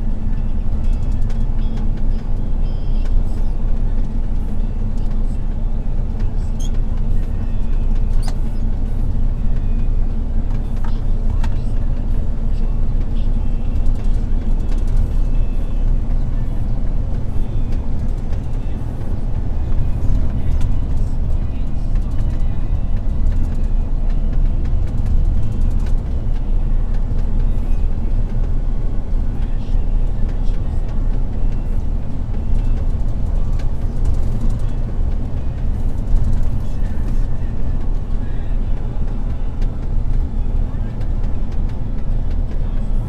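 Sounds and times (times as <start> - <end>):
truck engine and road rumble: 0.0 - 43.0.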